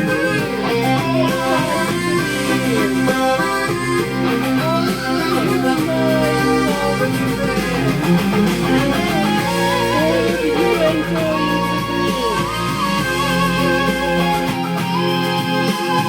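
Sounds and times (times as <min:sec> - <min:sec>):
instrumental song with guitar: 0:00.0 - 0:16.0.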